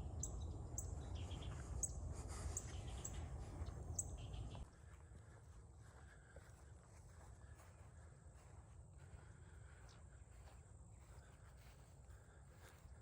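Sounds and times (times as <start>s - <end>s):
birds chirping: 0.0s - 4.9s, 7.0s - 13.0s.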